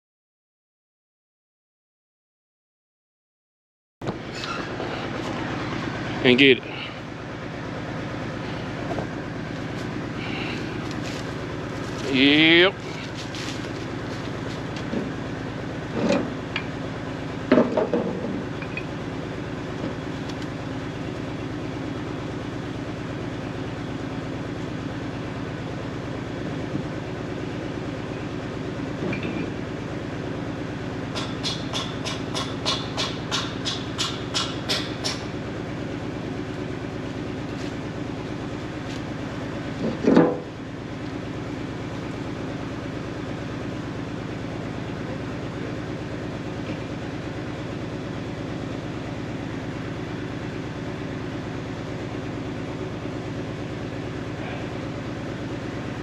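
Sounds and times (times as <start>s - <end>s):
engine humming: 4.0s - 56.0s.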